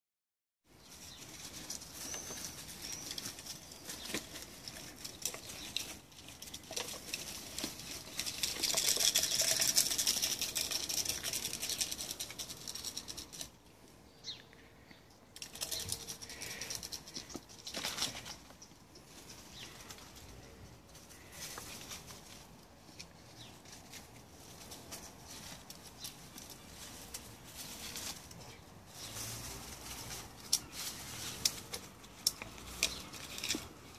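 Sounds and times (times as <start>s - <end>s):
animals scrabbling through dry leaves: 0.7s - 13.6s, 15.4s - 33.9s.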